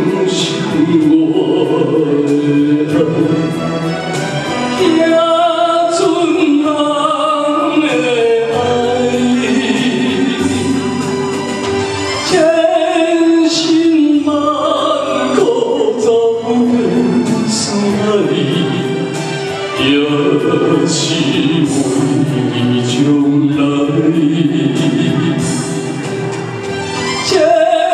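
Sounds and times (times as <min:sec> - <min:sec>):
man singing into a microphone: 0:00.0 - 0:11.4, 0:12.0 - 0:26.2, 0:27.2 - 0:27.9
karaoke backing track: 0:00.0 - 0:27.9.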